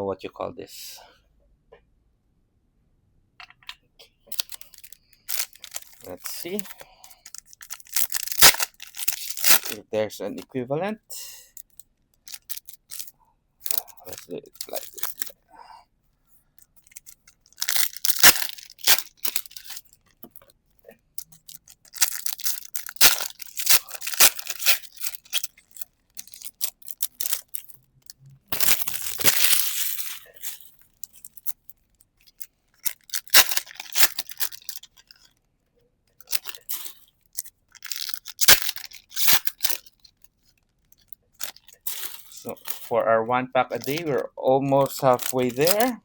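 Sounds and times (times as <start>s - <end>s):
trading cards rustling and crinkling: 4.2s - 10.6s, 11.5s - 15.4s, 16.4s - 35.5s, 36.1s - 46.0s.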